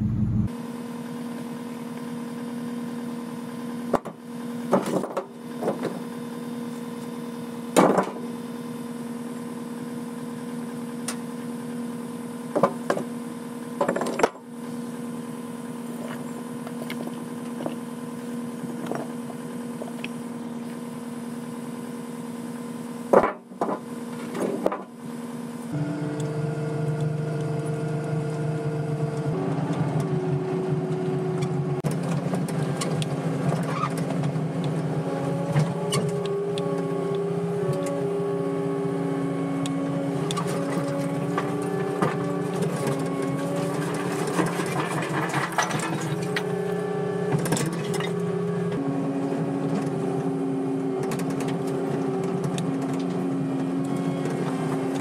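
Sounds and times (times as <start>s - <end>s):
heavy machine engine running: 0.0s - 55.0s.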